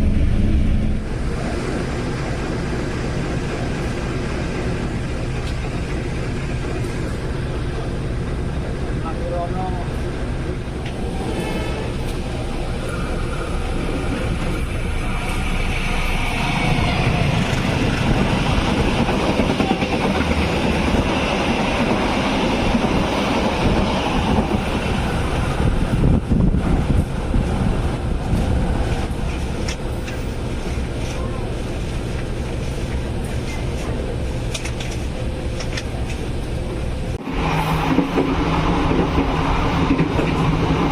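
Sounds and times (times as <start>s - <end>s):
train wheels rumbling and rattling: 0.0s - 40.9s.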